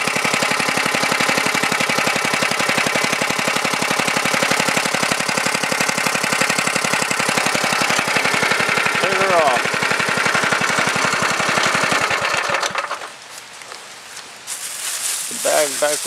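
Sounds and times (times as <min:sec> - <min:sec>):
small engine idling: 0:00.0 - 0:13.1.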